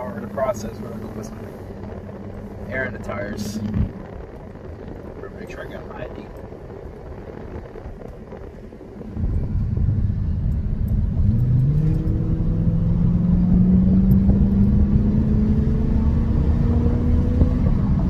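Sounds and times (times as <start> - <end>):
car engine accelerating: 0.0 - 18.0
road rumble inside car cabin: 0.0 - 18.0.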